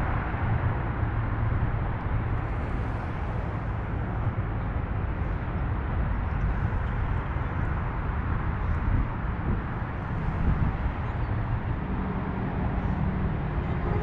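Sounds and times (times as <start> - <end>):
low rumble with hiss: 0.0 - 14.0.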